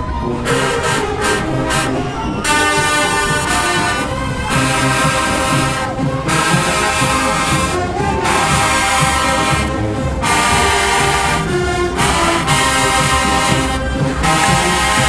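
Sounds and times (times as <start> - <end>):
brass section playing chords: 0.0 - 15.0
marching drums: 0.0 - 15.0.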